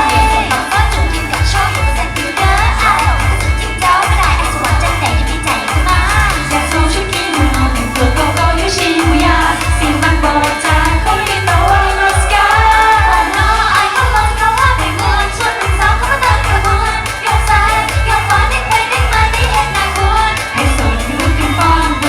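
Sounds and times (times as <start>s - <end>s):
heavy bass beat: 0.0s - 22.0s
pop song with singing: 0.0s - 22.0s.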